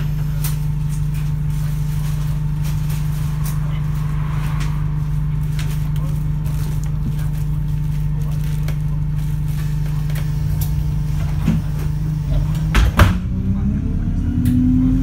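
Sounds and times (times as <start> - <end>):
bus diesel engine idling: 0.0 - 4.2, 4.9 - 14.2.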